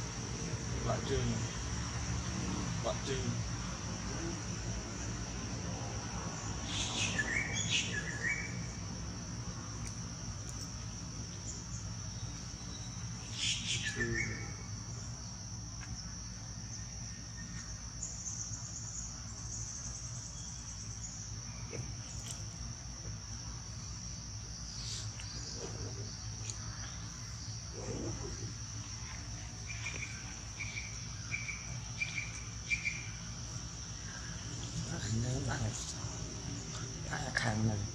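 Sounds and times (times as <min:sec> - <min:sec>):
high-pitched insect drone: 0:00.0 - 0:37.9.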